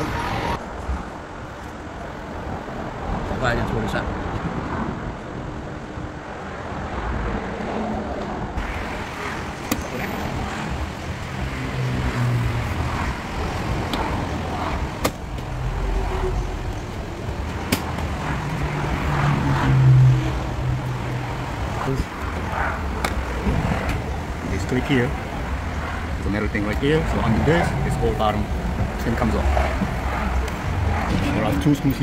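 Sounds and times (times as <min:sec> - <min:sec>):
traffic: 0:00.0 - 0:32.0.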